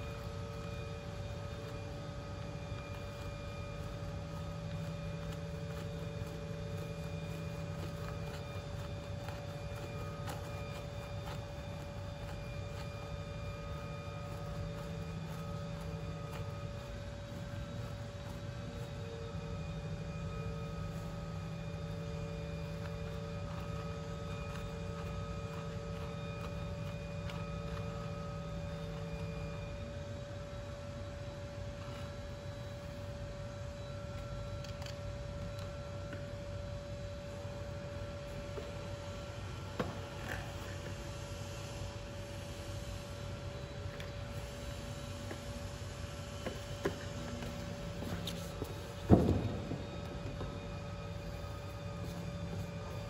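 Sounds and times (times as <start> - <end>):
workshop machinery humming: 0.0 - 53.0.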